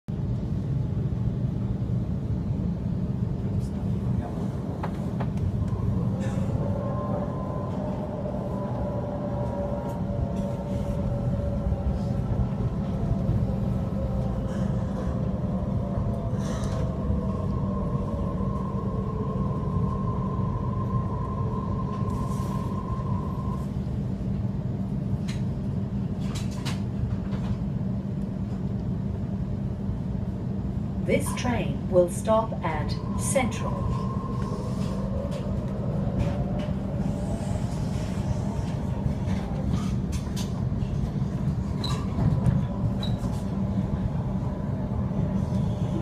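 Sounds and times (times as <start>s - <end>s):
train wheels rumbling on track: 0.1s - 46.0s.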